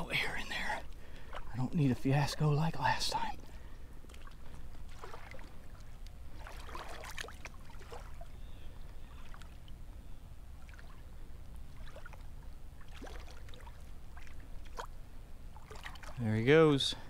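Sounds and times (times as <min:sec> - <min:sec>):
water splashing and sloshing: 0:00.0 - 0:09.8, 0:10.5 - 0:17.0.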